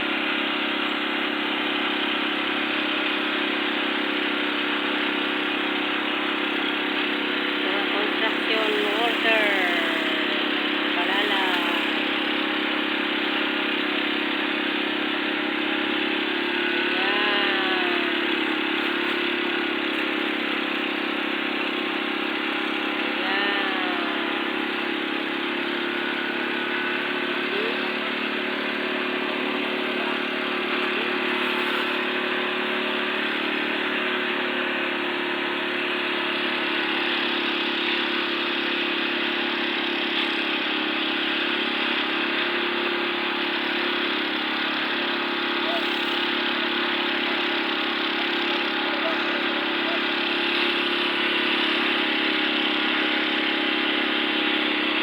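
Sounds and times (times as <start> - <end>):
engine droning: 0.0 - 55.0.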